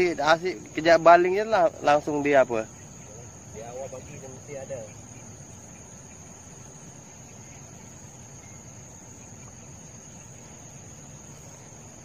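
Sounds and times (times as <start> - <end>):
insect trill: 0.0 - 12.0
outdoor background hiss: 0.0 - 12.0.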